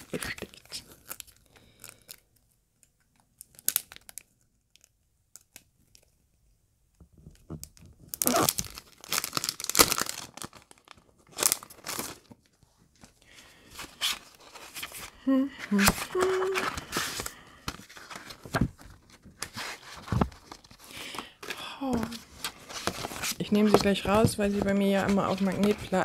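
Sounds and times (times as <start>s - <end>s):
plastic packaging crinkling: 0.0s - 2.2s, 3.4s - 6.0s, 7.6s - 26.0s.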